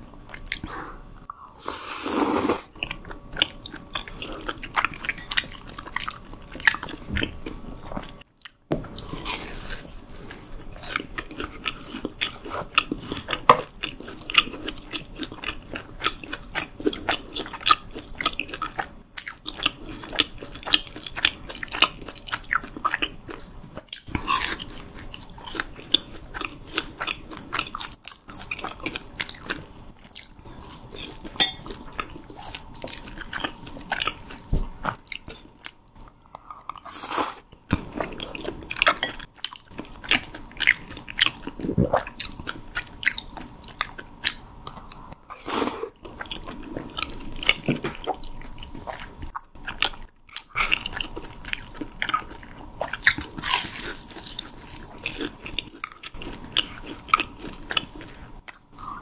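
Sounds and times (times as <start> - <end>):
crunching and chewing crispy food: 2.6 - 45.1, 45.8 - 59.0.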